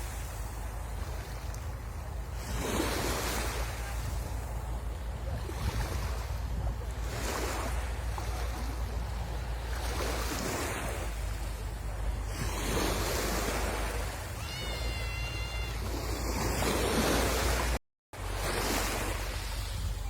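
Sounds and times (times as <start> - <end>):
sea waves washing onto shore: 0.0 - 20.0
wind rumbling on microphone: 0.0 - 20.0.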